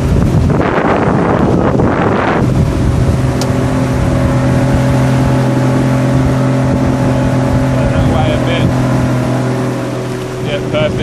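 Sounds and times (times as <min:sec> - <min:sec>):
motorboat engine running: 0:00.0 - 0:11.0
wind and water rushing: 0:00.0 - 0:11.0.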